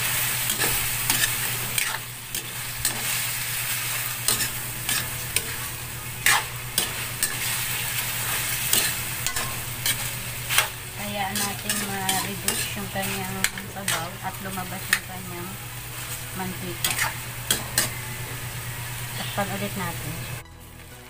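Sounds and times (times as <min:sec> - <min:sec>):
metal spatula scraping wok: 0:00.0 - 0:20.3
chicken sizzling in hot oil: 0:00.0 - 0:21.0.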